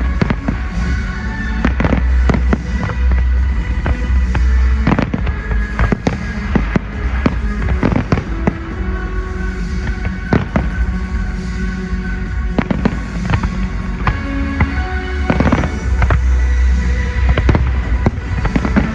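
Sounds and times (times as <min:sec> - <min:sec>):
fireworks bangs: 0:00.0 - 0:18.9
music: 0:00.0 - 0:18.9.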